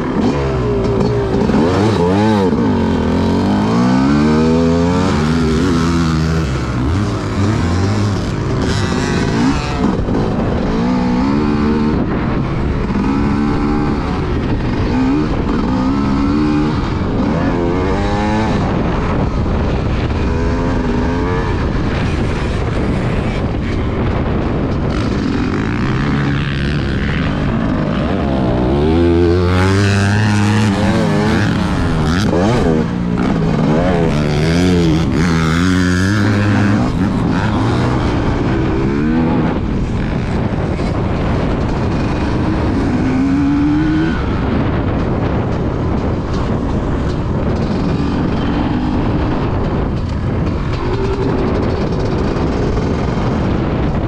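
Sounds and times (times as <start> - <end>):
dirt bike engine revving: 0.0 - 54.0
wind noise on microphone: 0.0 - 54.0.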